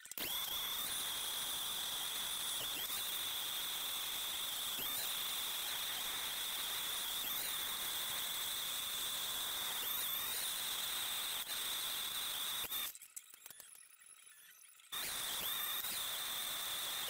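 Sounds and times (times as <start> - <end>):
machine high-pitched whine: 0.0 - 17.0.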